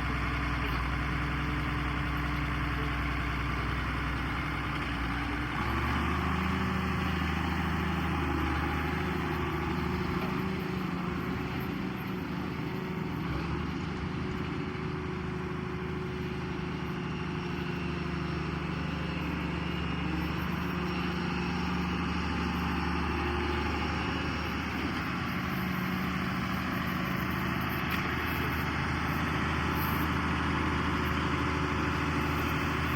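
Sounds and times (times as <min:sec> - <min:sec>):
tractor diesel engine idling: 0:00.0 - 0:32.9.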